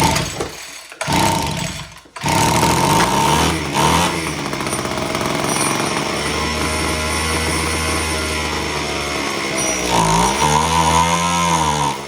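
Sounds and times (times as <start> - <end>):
hedge trimmer engine revving: 0.0 - 12.0.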